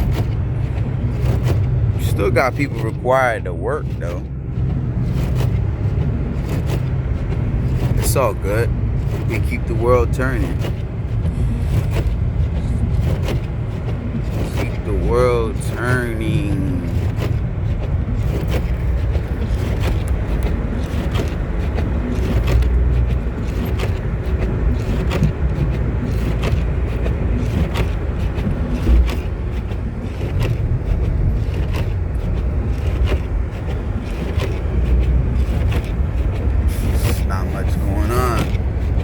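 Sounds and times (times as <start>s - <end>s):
engine and tyre rumble: 0.0s - 39.0s
short knocks and clicks: 0.0s - 39.0s.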